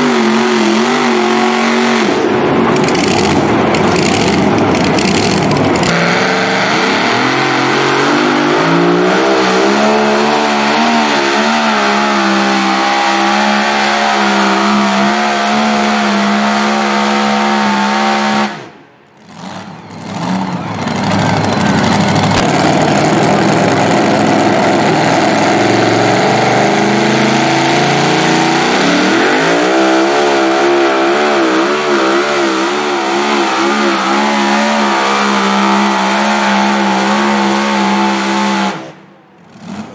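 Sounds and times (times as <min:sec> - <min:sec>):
supercharged engine revving hard: 0:00.0 - 0:39.9.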